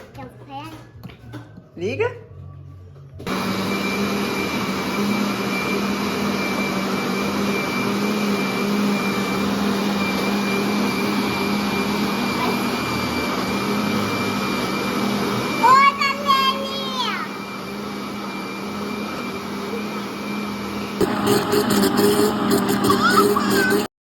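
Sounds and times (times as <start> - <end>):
kitchen blender running: 3.3 - 23.9.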